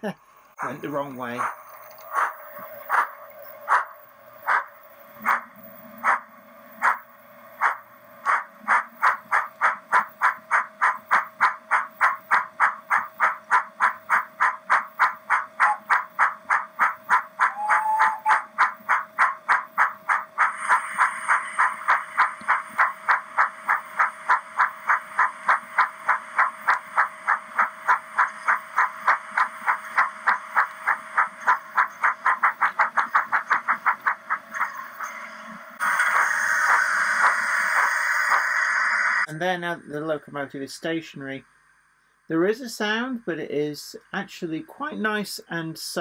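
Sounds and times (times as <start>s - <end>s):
model locomotive steam chuffs: 0.2s - 45.2s.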